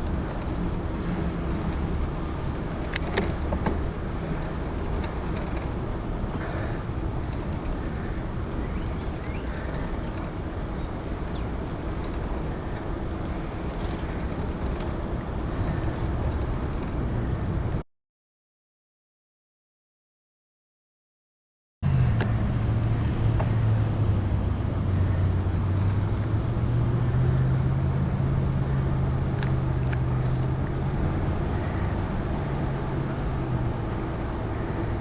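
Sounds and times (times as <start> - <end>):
bicycle tires rolling on trail: 0.0 - 17.4, 22.0 - 28.1, 28.9 - 35.0.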